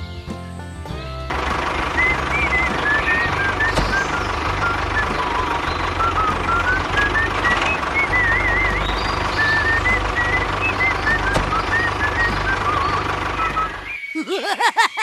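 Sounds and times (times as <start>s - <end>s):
toy engine rumble sound effect: 0.0s - 13.9s.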